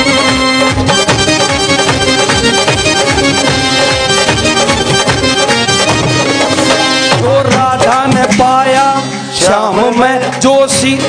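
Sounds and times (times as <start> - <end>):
keyboard melody: 0.0 - 11.0
steady drum beat: 0.0 - 11.0.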